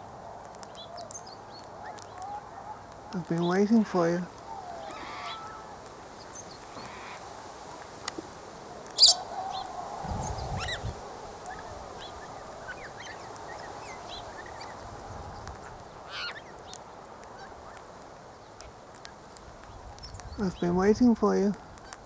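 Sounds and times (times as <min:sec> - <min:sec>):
birds squawking and chirping: 0:00.6 - 0:07.8, 0:08.6 - 0:21.0.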